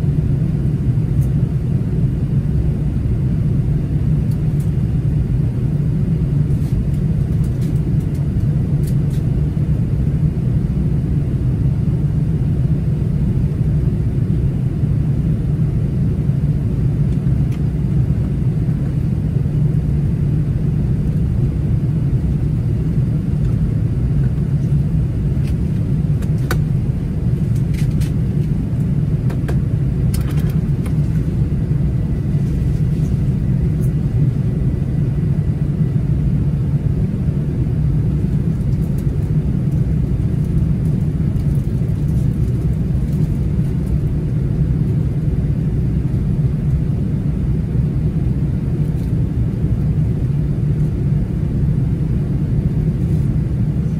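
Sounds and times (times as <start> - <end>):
airplane cabin engine drone: 0.0 - 53.9.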